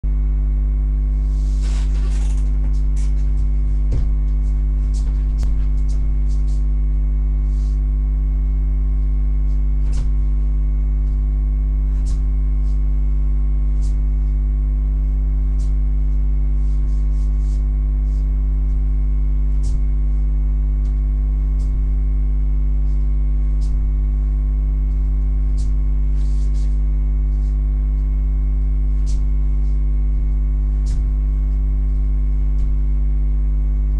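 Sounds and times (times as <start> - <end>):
electrical mains hum: 0.0 - 33.9.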